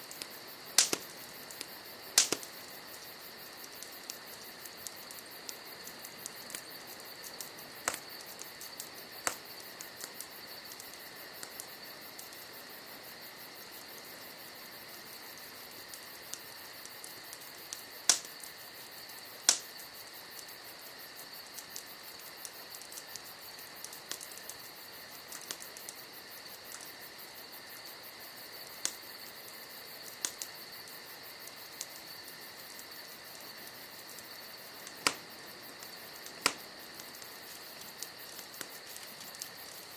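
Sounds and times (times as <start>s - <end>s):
campfire logs crackling: 0.0s - 39.9s
crickets chirping: 0.0s - 39.9s.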